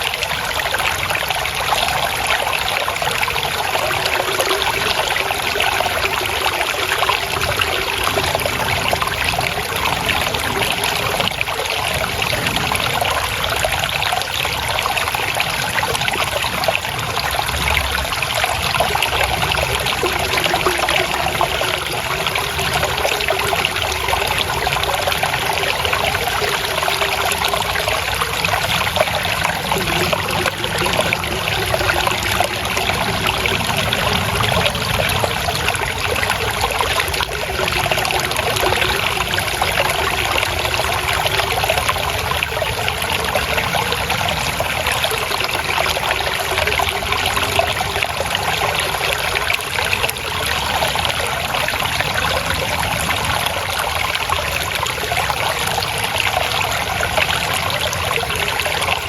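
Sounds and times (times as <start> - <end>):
stream water babbling: 0.0 - 59.0.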